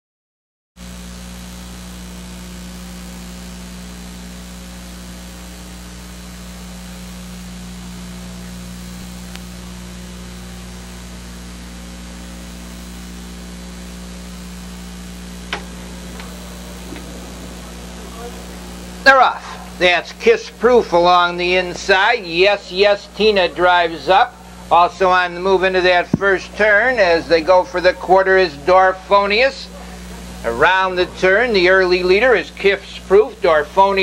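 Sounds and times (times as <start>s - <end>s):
electrical mains hum with hiss: 0.8s - 34.0s.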